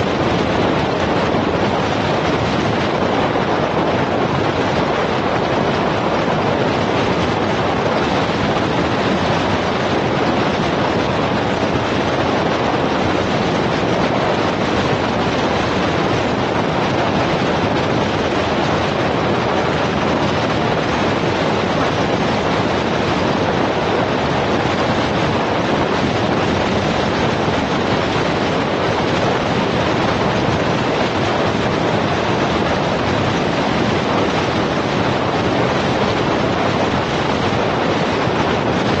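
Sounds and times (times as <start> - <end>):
vehicle road and wind rush: 0.0 - 39.0.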